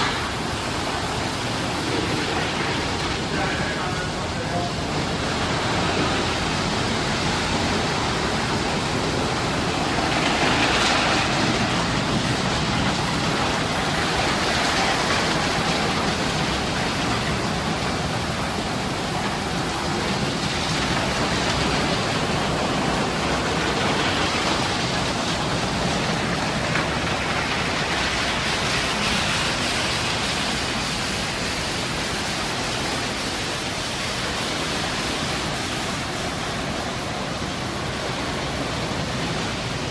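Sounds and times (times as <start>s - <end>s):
car wash spraying water: 0.0s - 39.9s.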